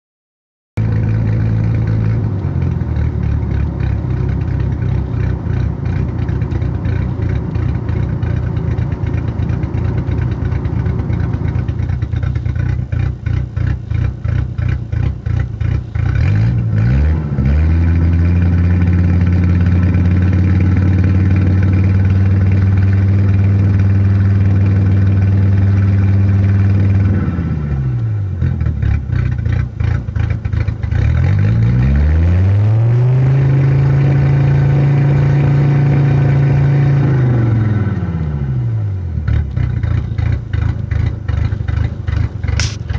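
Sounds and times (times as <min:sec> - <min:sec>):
engine idling roughly and revving: 0:00.8 - 0:42.9.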